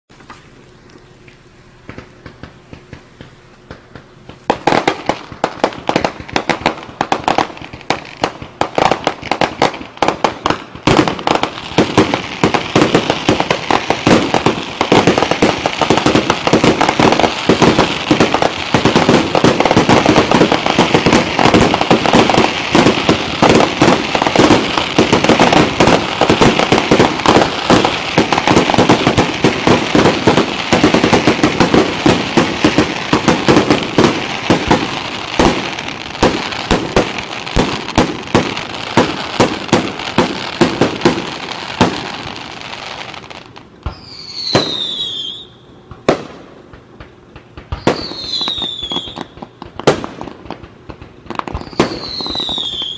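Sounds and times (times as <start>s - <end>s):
fireworks bangs and crackles: 1.2s - 52.9s.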